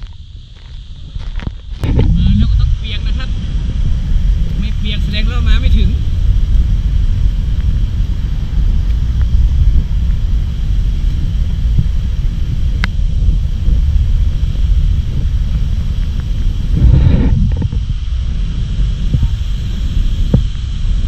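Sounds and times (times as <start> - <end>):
spray blowing across microphone: 0.0 - 21.0
waterfall rumbling: 1.8 - 21.0.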